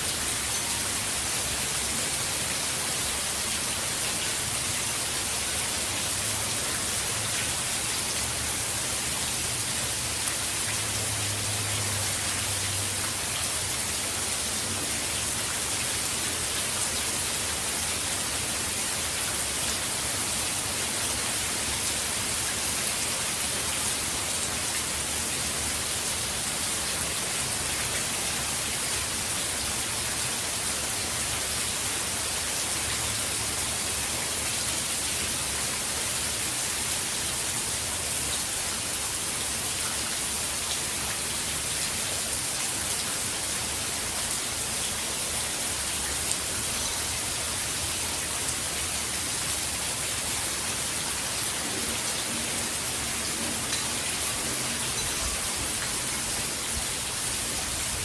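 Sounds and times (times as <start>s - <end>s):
heavy rain hissing: 0.0s - 34.6s, 35.3s - 58.0s.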